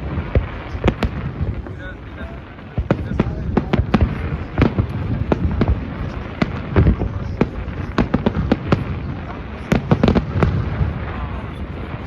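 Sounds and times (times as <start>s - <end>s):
fireworks bangs and cracks: 0.0s - 12.0s
low rumble of explosions: 0.0s - 12.0s.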